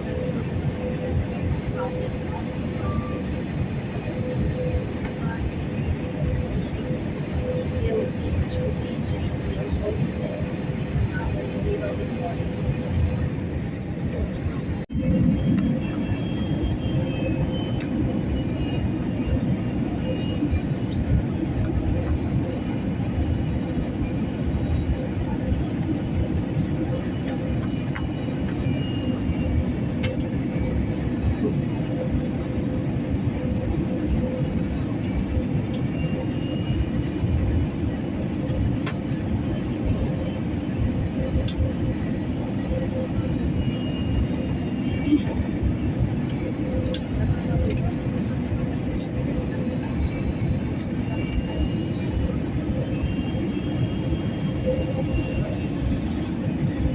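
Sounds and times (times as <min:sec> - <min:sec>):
airliner cabin rumble: 0:00.0 - 0:56.9.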